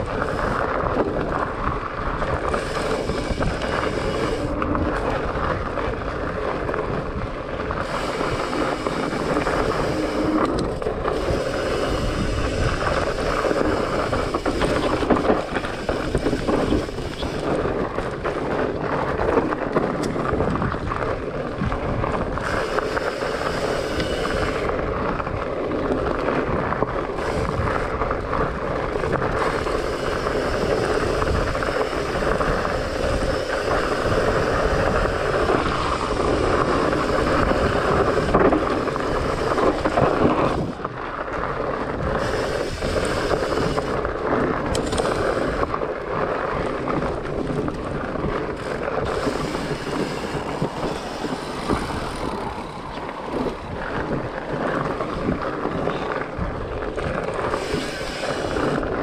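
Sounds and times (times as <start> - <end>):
bike tyres rolling on gravel: 0.0 - 59.0
wind buffeting microphone: 0.0 - 59.0.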